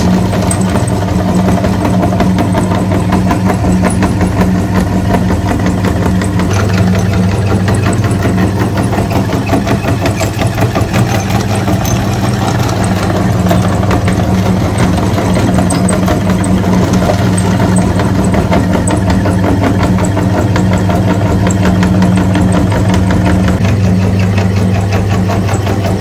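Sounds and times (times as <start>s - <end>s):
motor humming with fine rattle: 0.0s - 26.0s.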